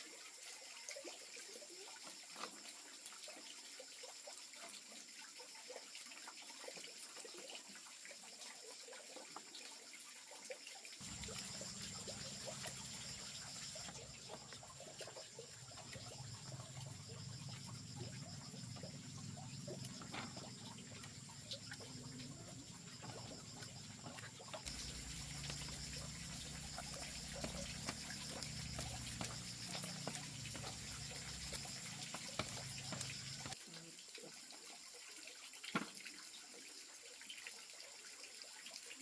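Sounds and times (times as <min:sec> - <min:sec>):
water trickling and splashing: 0:00.0 - 0:39.0.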